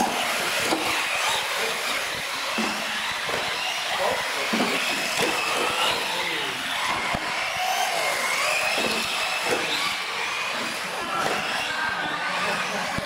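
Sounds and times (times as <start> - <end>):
electric motors whining: 0.0 - 13.0
tyres rushing on concrete: 0.0 - 13.0.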